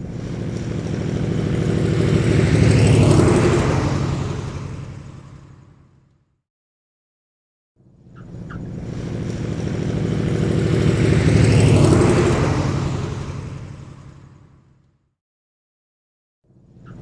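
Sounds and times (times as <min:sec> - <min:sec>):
propeller aircraft passing: 0:00.0 - 0:06.3, 0:07.8 - 0:15.2, 0:16.5 - 0:17.0.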